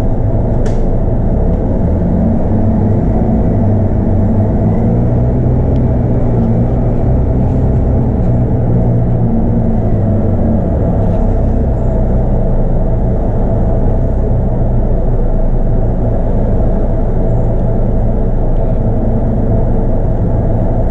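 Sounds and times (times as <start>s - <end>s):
bus diesel engine droning: 0.0s - 20.9s.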